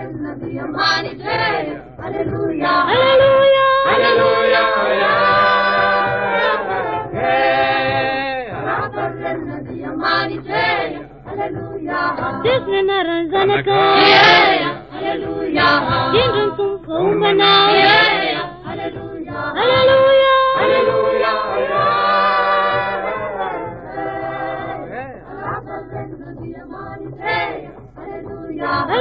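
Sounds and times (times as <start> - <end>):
church choir singing in harmony: 0.0 - 12.6, 13.5 - 29.0.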